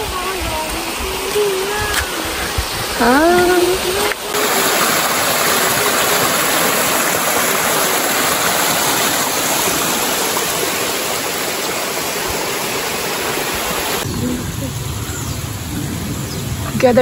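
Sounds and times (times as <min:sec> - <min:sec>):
water rushing over small waterfall: 0:00.0 - 0:14.6.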